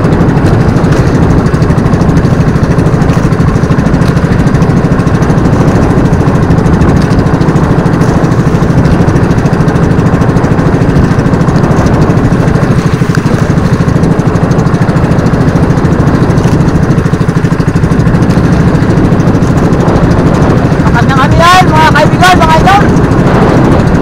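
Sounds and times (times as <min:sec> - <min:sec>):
boat engine puttering: 0:00.0 - 0:24.0.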